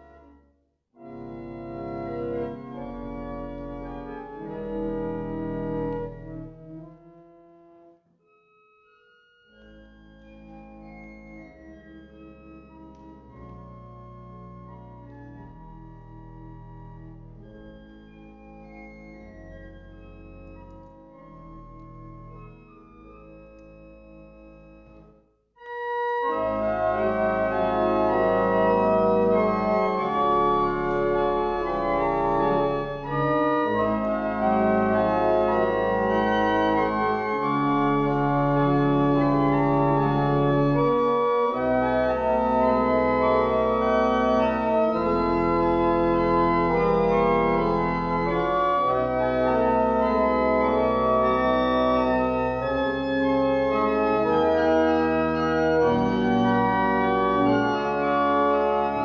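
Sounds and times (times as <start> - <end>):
church pipe organ chords: 0.0 - 59.0.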